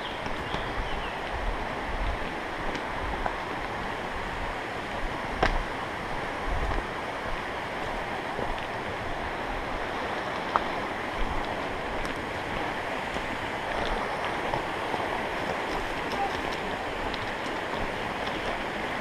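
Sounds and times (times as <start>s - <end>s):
creek flowing: 0.0s - 19.0s.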